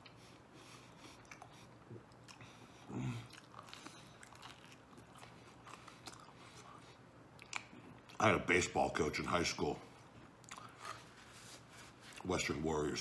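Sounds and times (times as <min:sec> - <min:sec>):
man chewing food: 0:00.0 - 0:08.2, 0:09.8 - 0:12.3.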